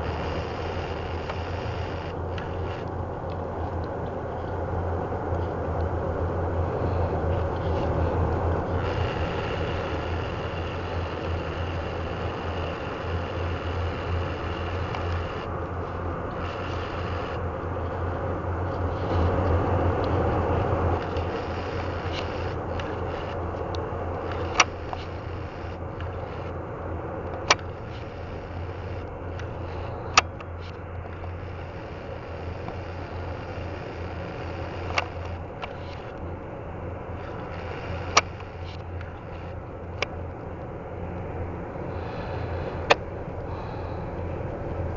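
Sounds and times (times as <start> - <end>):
jet engines rumbling and hissing: 0.0 - 44.9.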